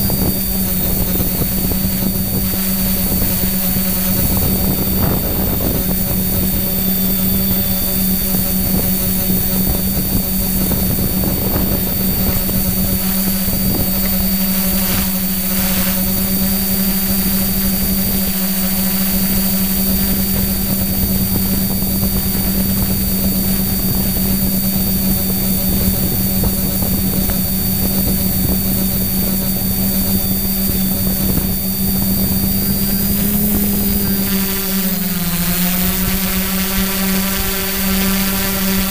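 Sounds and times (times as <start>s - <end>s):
drone motors droning: 0.0s - 38.9s
wind from propellers: 0.0s - 38.9s.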